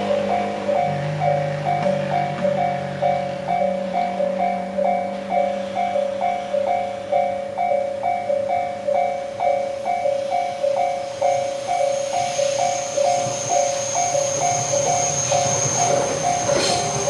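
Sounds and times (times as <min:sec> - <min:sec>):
electric train approaching: 0:00.0 - 0:17.0
level-crossing bell ringing: 0:00.0 - 0:17.0.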